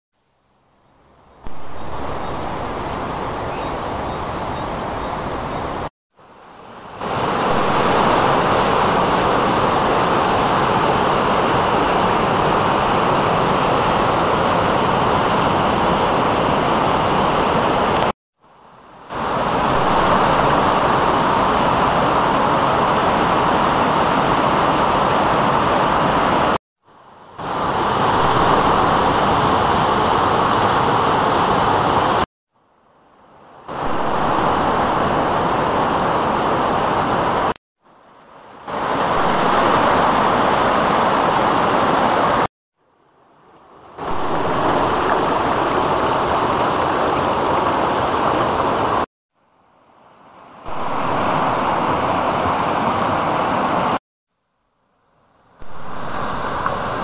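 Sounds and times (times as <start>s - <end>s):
river rushing over rock cascades: 5.2s - 32.2s, 33.7s - 42.5s, 43.3s - 49.1s, 50.1s - 54.0s, 55.6s - 57.0s.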